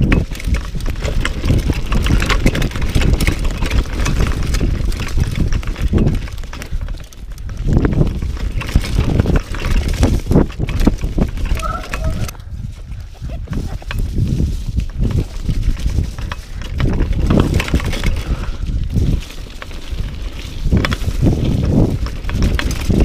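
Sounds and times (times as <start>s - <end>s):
bike clattering over bumps: 0.0s - 12.4s, 13.8s - 23.0s
bike tyres rolling over dirt and leaves: 0.0s - 23.0s
wind rumble on microphone: 0.0s - 23.0s.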